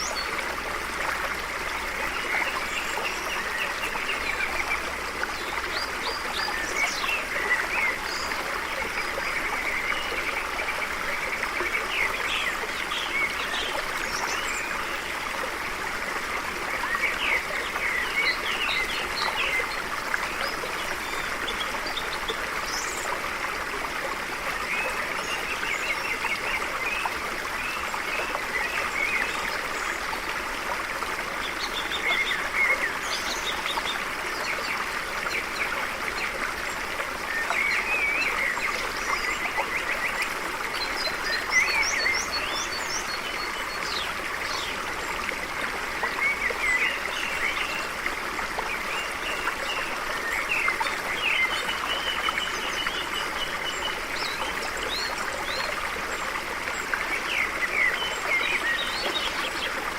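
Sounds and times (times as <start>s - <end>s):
stream flowing over stones: 0.0s - 59.9s.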